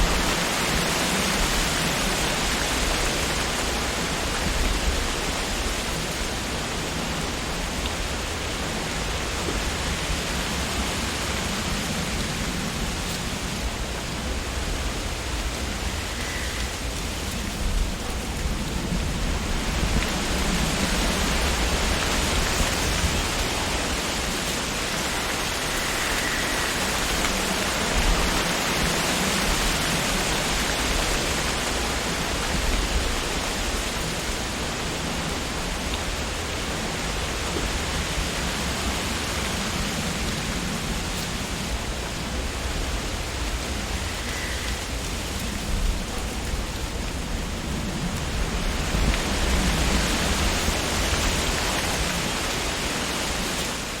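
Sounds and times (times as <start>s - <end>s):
wind rustling tree leaves: 0.0s - 54.0s.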